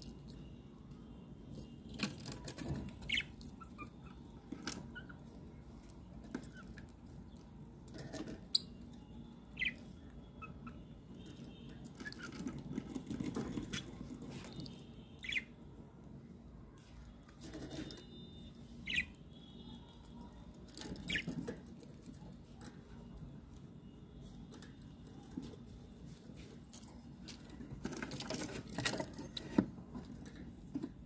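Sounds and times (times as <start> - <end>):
bird rustling and scratching: 1.4 - 9.0, 9.6 - 15.4, 16.8 - 18.3, 20.0 - 31.0.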